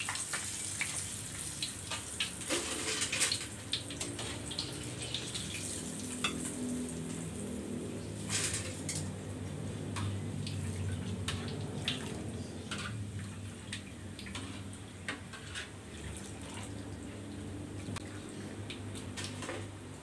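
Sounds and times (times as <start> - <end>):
hot oil crackling: 0.0 - 20.0.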